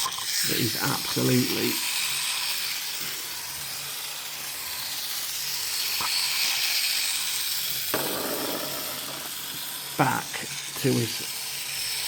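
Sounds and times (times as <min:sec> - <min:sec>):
toy electric motor whirring: 0:00.0 - 0:12.0.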